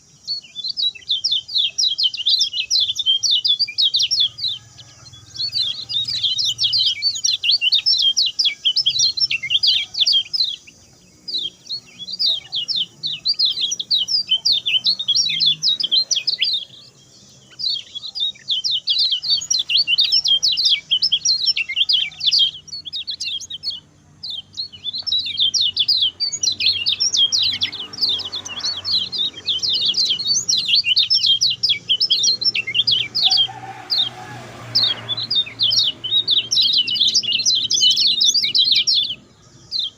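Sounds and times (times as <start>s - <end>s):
songbird singing rapid chirps: 0.0s - 39.9s.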